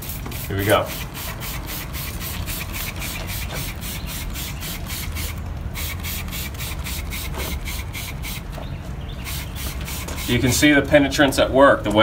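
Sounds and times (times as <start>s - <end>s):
spray bottle hissing sprays: 0.0s - 8.5s, 9.2s - 10.5s.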